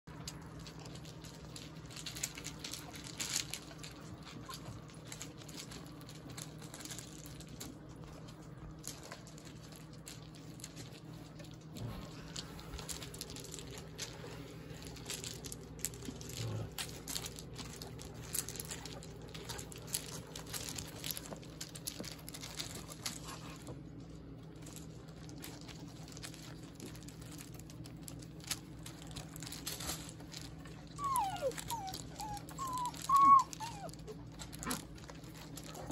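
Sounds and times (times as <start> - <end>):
low steady hum: 0.0 - 35.9.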